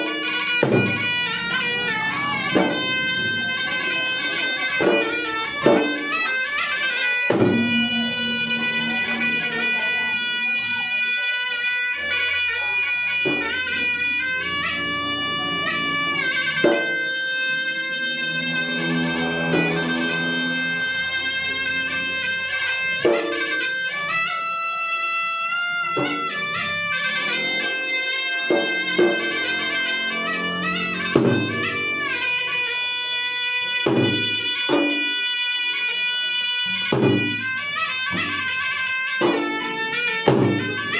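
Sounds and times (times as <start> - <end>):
drum strokes: 0.0 - 11.2, 13.1 - 24.4, 25.5 - 33.1, 33.7 - 35.2, 36.7 - 40.9
shrill reed wind instrument melody: 0.0 - 40.9.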